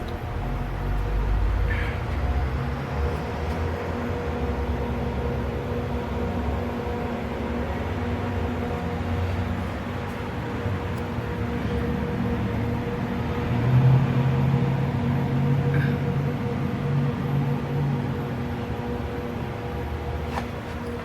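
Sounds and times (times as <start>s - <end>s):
lathe machine hum: 0.0s - 21.0s.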